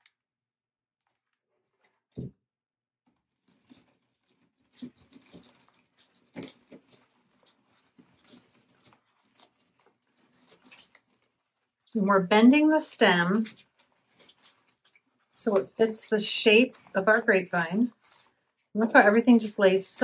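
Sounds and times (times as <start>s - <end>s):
crackling rustle of leaves and twigs: 3.1s - 20.0s.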